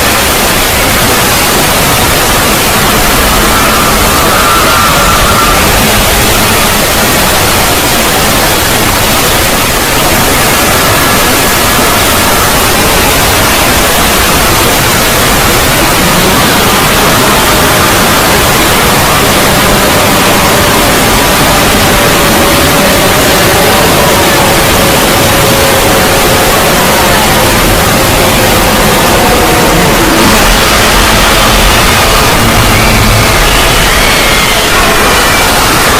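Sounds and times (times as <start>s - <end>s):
distorted static hiss: 0.0s - 35.9s.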